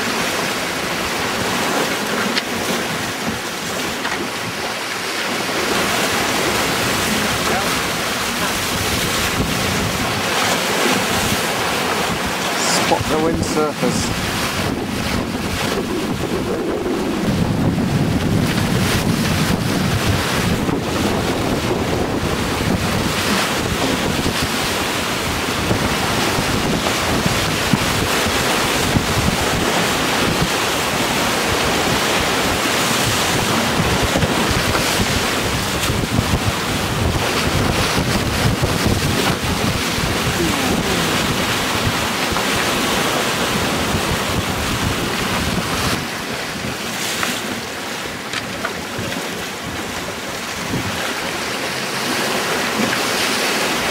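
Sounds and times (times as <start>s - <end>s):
rough sea breaking: 0.0s - 53.9s
wind buffeting microphone: 0.0s - 53.9s.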